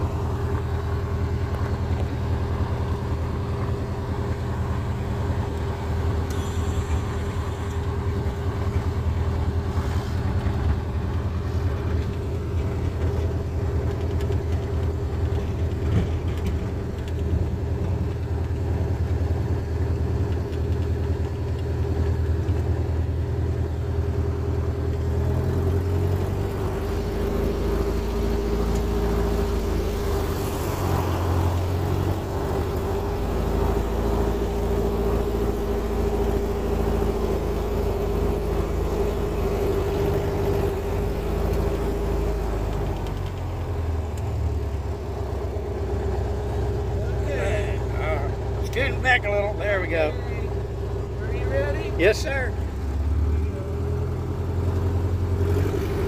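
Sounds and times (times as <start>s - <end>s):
aircraft piston engine and propeller: 0.0s - 56.0s.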